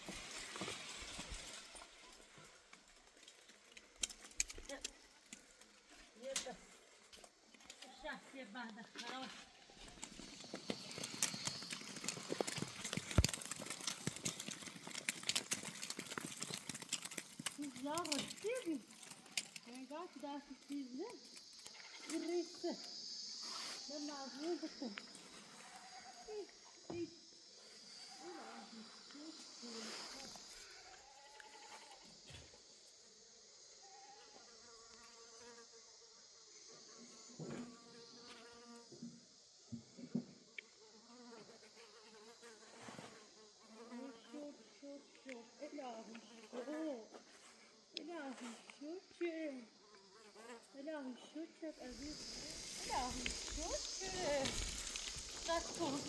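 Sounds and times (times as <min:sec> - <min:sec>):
high insect hiss: 0:00.0 - 0:56.0
flying insect buzzing: 0:04.0 - 0:56.0.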